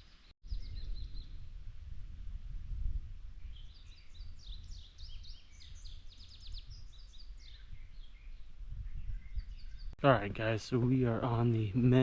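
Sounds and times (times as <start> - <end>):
songbirds chirping and trilling: 0.0 - 1.5, 3.4 - 12.0.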